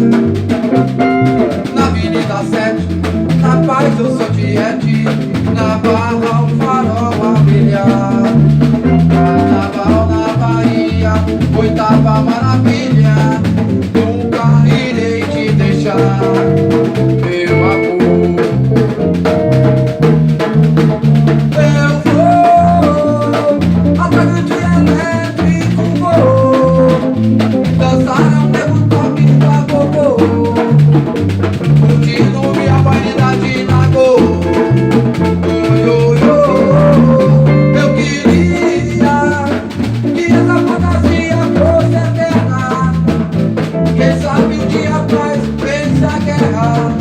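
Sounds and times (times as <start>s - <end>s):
heavy low drums: 0.0s - 47.0s.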